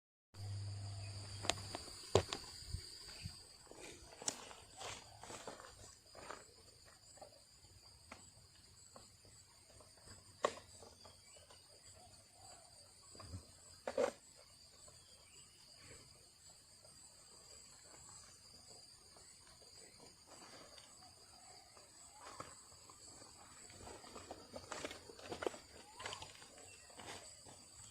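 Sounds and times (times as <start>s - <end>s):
insects droning: 0.4s - 27.9s.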